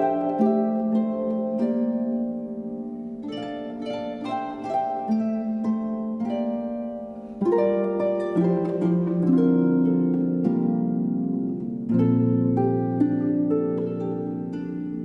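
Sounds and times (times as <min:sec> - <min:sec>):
harp playing plucked notes: 0:00.0 - 0:15.0.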